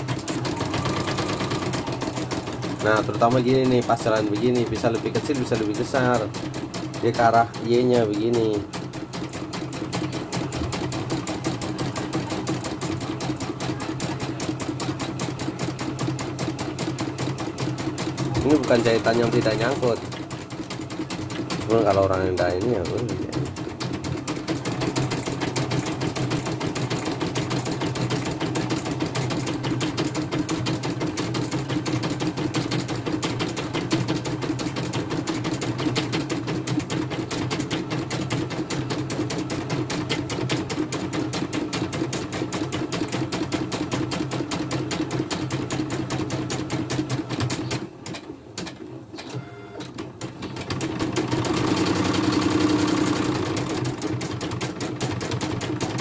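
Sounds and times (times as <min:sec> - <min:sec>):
embroidery machine stitching: 0:00.0 - 0:56.0.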